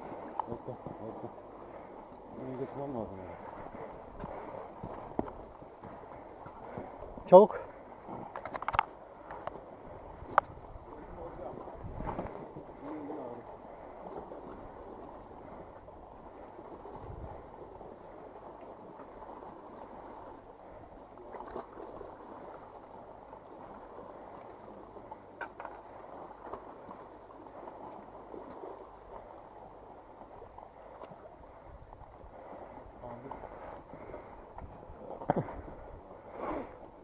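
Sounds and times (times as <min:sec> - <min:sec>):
sea water washing among boulders: 0:00.0 - 0:37.0.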